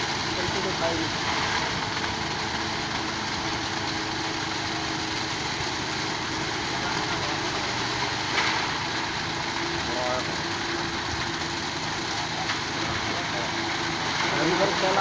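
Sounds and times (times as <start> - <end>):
engine running at low speed: 0.0 - 15.0.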